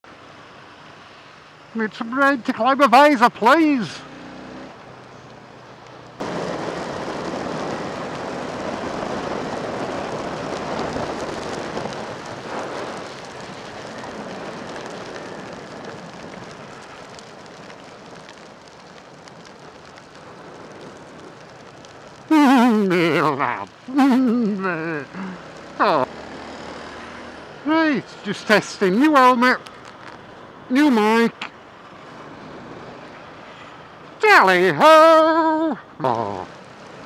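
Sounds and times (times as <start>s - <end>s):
rain and wind on microphone: 0.1s - 37.0s.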